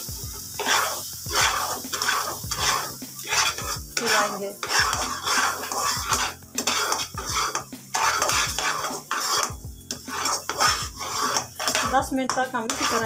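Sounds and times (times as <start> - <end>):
metal turner scraping a pan: 0.0 - 13.0.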